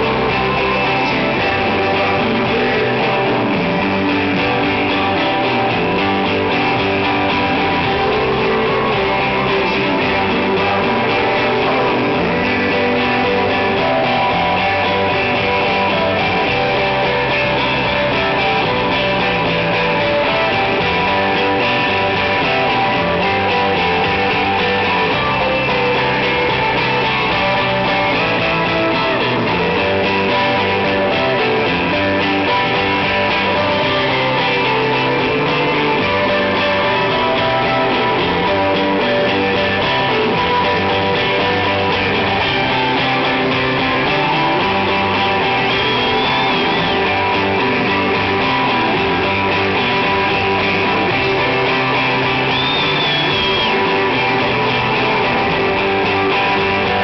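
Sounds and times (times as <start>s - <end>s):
live rock band playing: 0.0s - 57.0s
strummed electric guitar: 0.0s - 57.0s.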